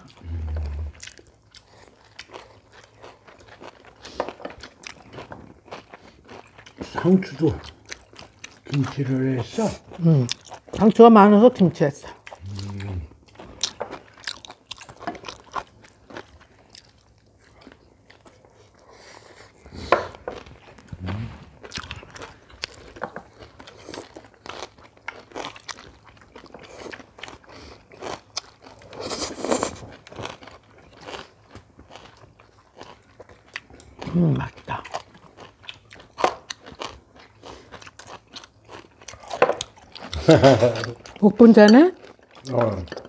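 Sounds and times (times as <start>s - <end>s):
people chewing and crunching food: 0.0s - 43.0s.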